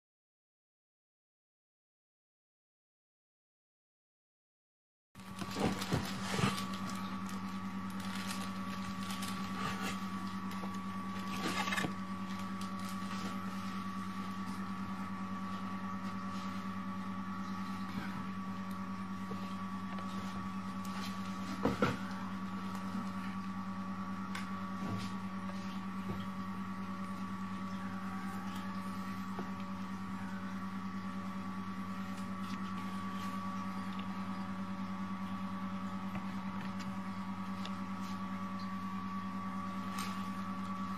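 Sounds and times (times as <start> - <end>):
machine electrical hum: 5.2 - 40.9.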